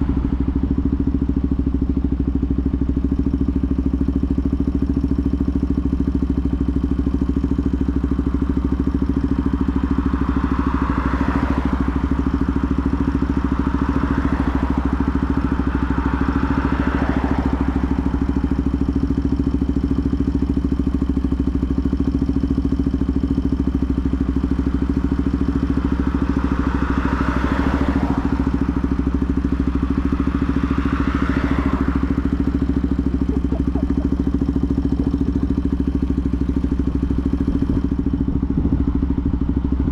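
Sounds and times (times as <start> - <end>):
motorcycle engine idling: 0.0 - 39.9
passing traffic: 0.0 - 39.9.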